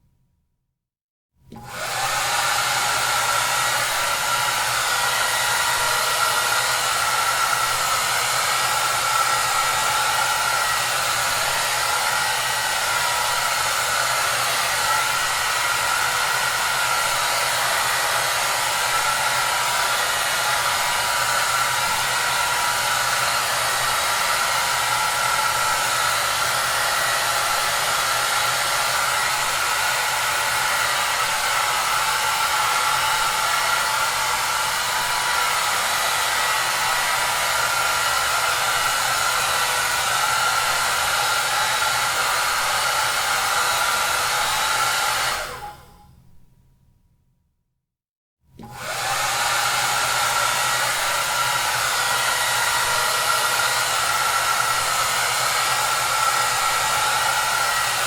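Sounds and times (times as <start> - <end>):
hair dryer running: 1.5 - 46.0, 48.6 - 58.0.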